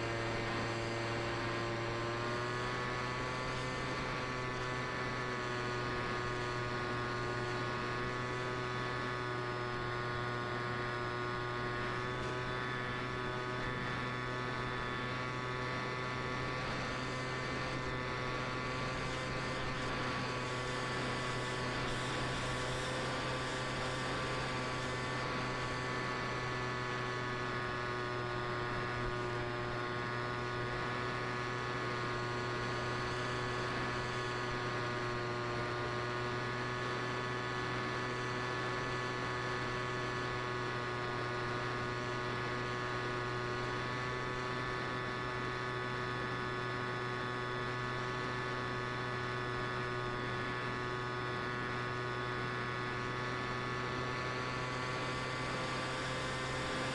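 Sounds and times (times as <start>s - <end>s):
electric motor hum: 0.0s - 56.9s.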